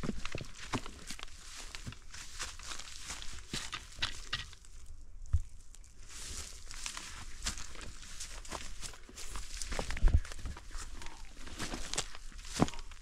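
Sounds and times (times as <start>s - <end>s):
footsteps through dry grass: 0.0s - 13.0s.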